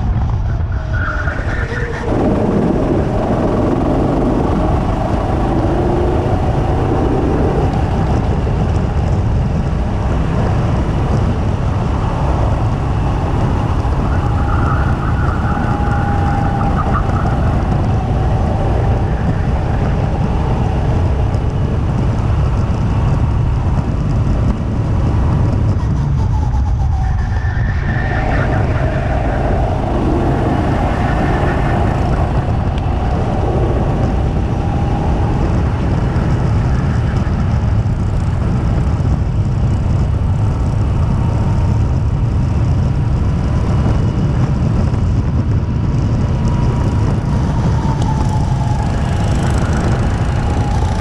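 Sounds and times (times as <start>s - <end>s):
go-kart engine running: 0.0s - 51.0s
high whine: 0.0s - 51.0s.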